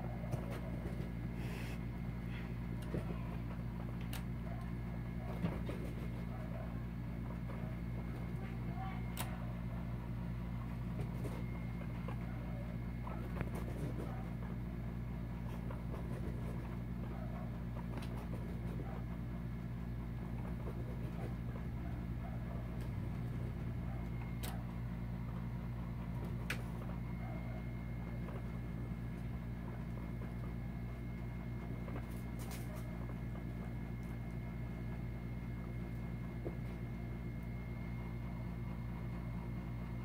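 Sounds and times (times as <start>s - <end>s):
low room hum: 0.0s - 40.0s.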